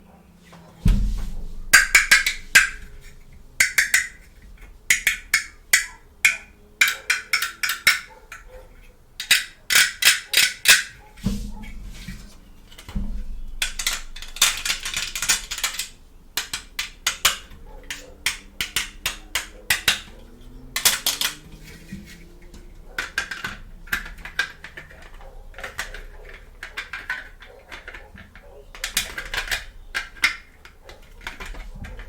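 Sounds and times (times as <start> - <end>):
dull thumps: 0.0 - 9.8, 10.5 - 26.8
rustling: 0.0 - 32.0
plastic toy pieces clicking: 1.7 - 11.1, 13.6 - 32.0.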